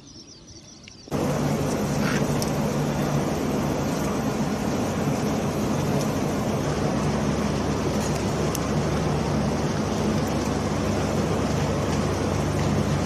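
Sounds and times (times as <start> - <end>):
low machinery hum: 1.0 - 13.0.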